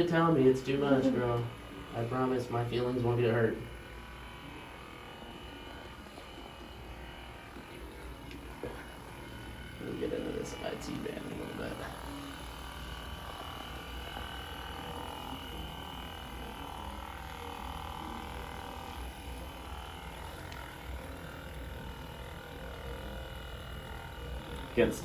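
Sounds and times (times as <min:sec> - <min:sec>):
massage gun humming: 0:00.0 - 0:25.0.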